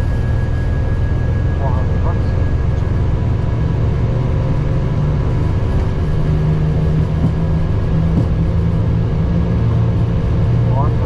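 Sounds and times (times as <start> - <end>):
faint steady tones: 0.0 - 9.2
aircraft engine drone: 0.0 - 11.0.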